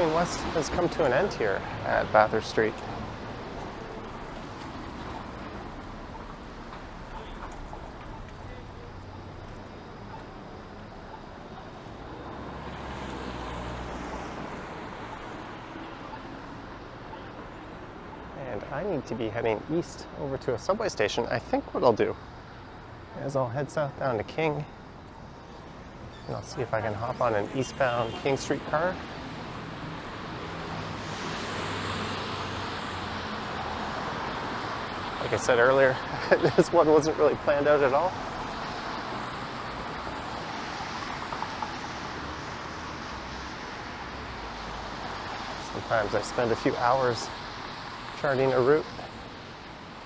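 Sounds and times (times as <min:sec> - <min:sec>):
tyre hiss on wet street: 0:00.0 - 0:50.0.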